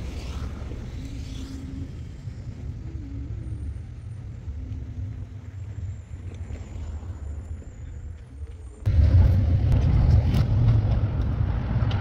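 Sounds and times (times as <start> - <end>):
low city rumble: 0.0 - 12.0.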